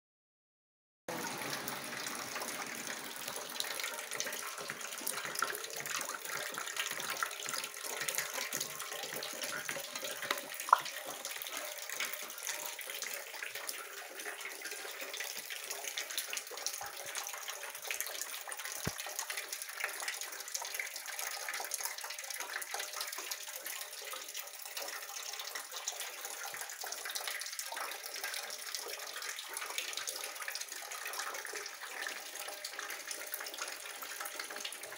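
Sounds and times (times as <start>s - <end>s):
water dripping: 1.1s - 34.9s.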